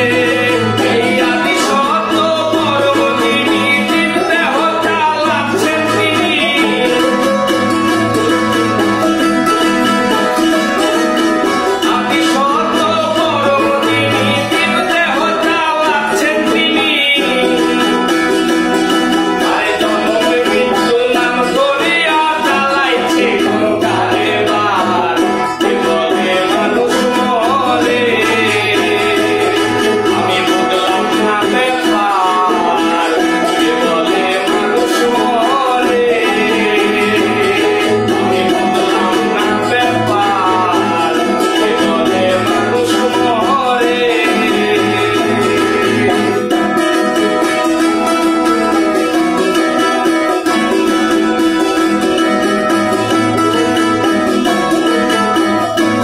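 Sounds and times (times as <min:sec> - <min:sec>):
acoustic guitar: 0:00.0 - 0:56.0
man singing: 0:00.0 - 0:56.0
strummed ukulele: 0:00.0 - 0:56.0.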